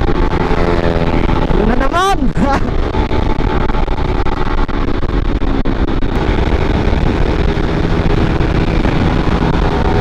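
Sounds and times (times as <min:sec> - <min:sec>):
motorcycle engine running: 0:00.0 - 0:10.0
wind noise on microphone: 0:00.0 - 0:10.0.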